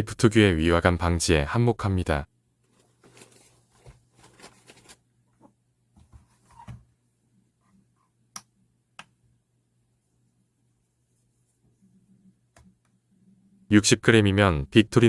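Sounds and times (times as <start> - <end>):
low steady hum: 2.3 - 15.0.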